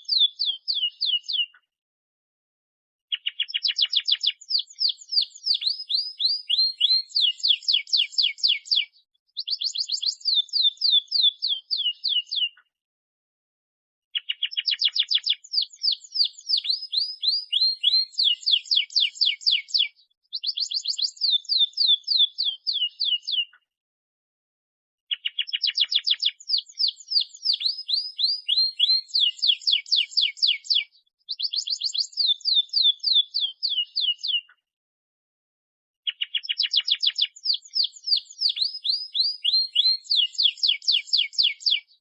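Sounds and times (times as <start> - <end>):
canary singing trills: 0.0 - 1.6, 3.1 - 12.6, 14.2 - 23.6, 25.1 - 34.5, 36.1 - 42.0.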